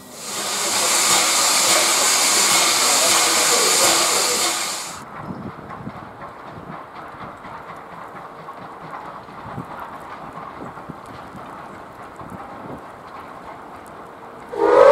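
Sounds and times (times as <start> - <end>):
steam locomotive hissing steam: 0.0 - 14.9.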